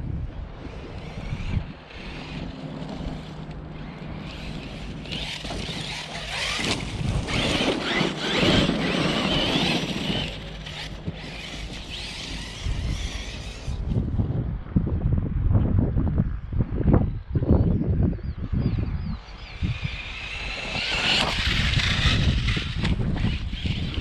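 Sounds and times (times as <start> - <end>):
wind noise on microphone: 0.0 - 24.0
rc car motor driving on dirt: 0.4 - 14.3, 18.6 - 24.0.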